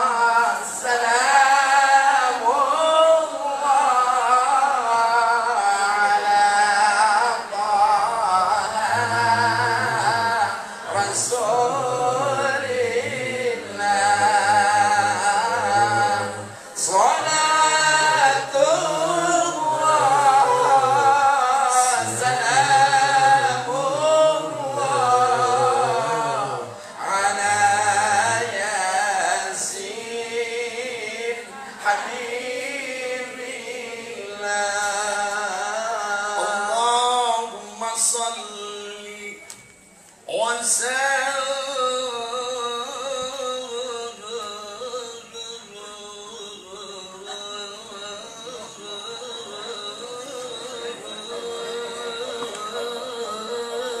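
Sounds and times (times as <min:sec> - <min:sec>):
man singing recitation into microphone: 0:00.0 - 0:39.5, 0:40.2 - 0:54.0.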